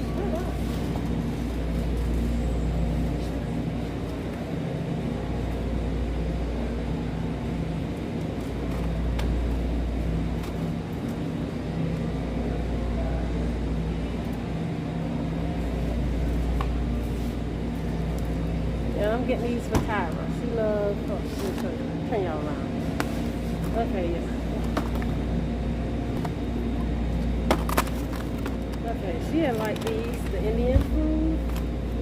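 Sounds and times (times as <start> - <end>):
freezer hum and rumble: 0.0 - 32.0.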